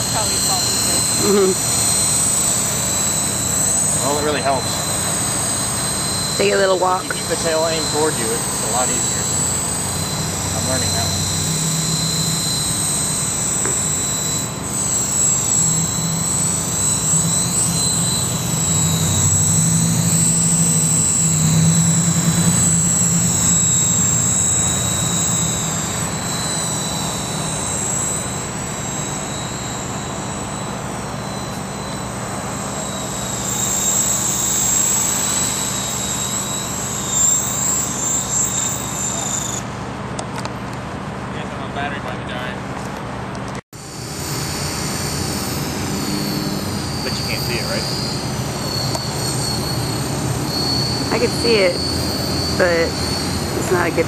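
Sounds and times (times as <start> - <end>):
rc helicopter motor whine: 0.0 - 54.0
rotor hum: 0.0 - 54.0.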